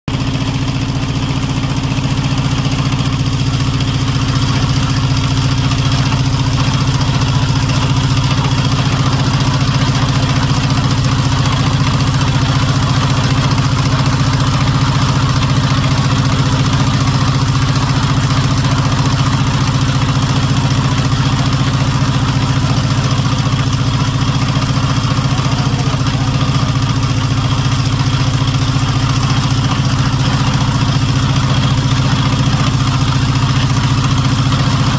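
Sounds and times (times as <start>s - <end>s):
motor engine running steadily: 0.1s - 34.9s.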